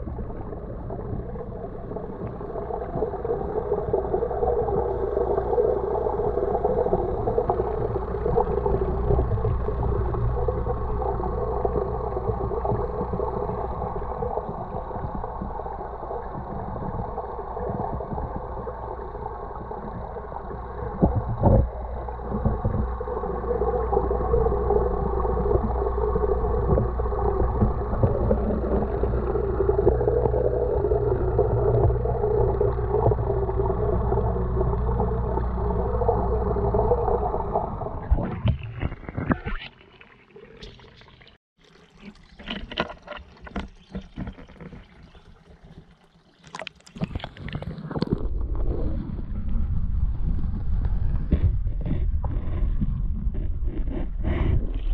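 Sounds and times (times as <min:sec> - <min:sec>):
wavering mid-pitched hum: 0:00.0 - 0:41.4, 0:47.0 - 0:54.9
muffled underwater rumble: 0:00.0 - 0:54.9
underwater clicks and crackles: 0:00.0 - 0:54.9.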